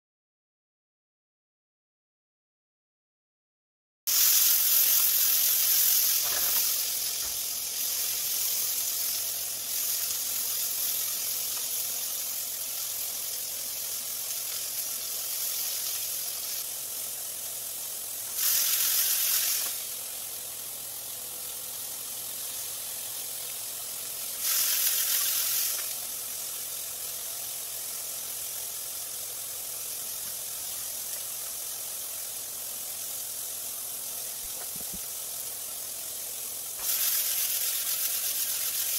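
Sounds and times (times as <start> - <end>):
meat sizzling in a frying pan: 4.1 - 38.9.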